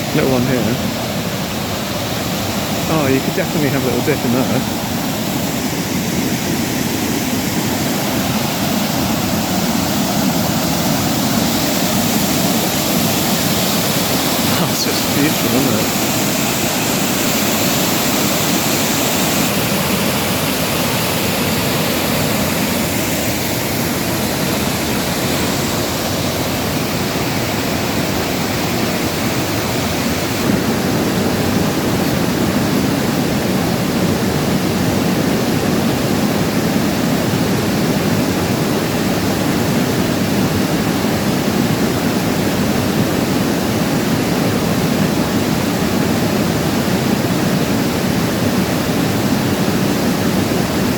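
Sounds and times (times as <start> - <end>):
stream rushing over rocks: 0.0 - 50.9.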